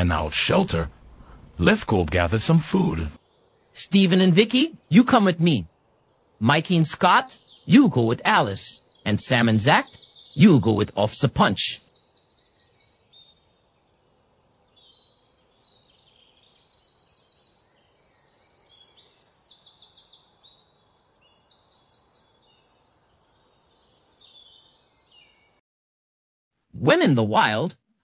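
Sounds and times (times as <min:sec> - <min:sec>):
small birds chirping: 0:00.0 - 0:25.6.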